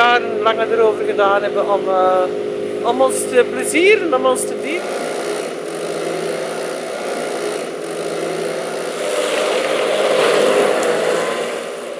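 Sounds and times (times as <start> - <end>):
street noise: 0.0 - 11.9
vehicle engine running: 0.0 - 11.9.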